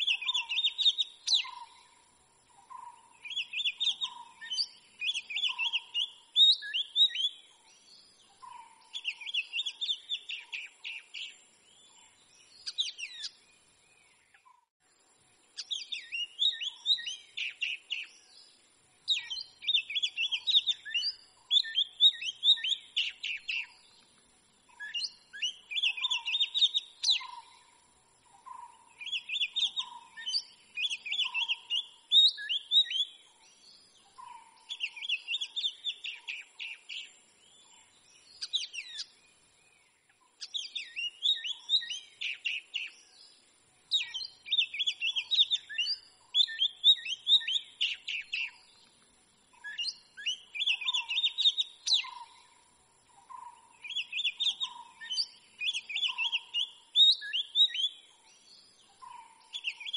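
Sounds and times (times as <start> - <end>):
bird whistling and chirping: 0.0 - 1.8, 3.2 - 13.4, 15.6 - 18.4, 19.1 - 23.9, 24.7 - 27.5, 28.5 - 39.1, 40.4 - 43.3, 43.9 - 48.7, 49.5 - 52.4, 53.3 - 59.9.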